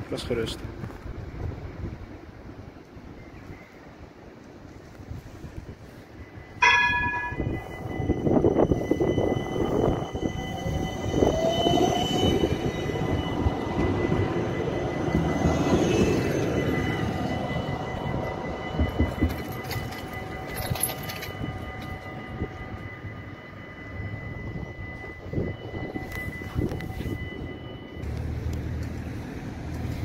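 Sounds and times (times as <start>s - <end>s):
tram warning signal: 0.2s - 30.0s
tram wheels rumbling on rail: 3.8s - 30.0s.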